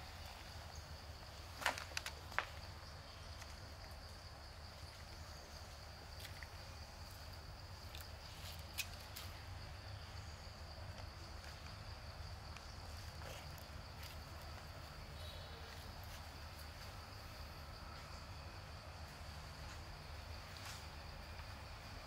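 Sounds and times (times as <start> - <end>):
faint insect drone: 0.0 - 22.0.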